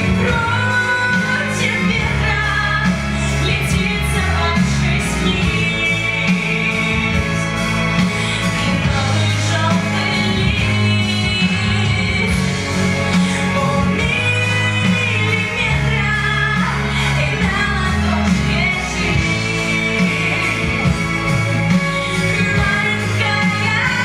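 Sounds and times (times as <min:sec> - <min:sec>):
guitar: 0:00.0 - 0:24.0
person singing: 0:00.0 - 0:24.0
steady bass line: 0:00.0 - 0:24.0.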